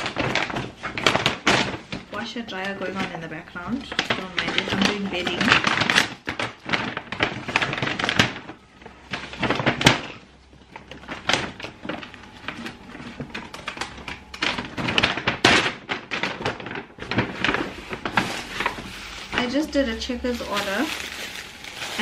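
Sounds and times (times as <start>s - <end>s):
paper bags rustling and crackling: 0.0s - 22.0s.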